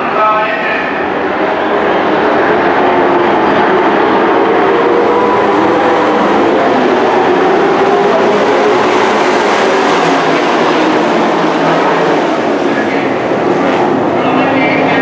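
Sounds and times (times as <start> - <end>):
race truck engines roaring: 0.0 - 15.0.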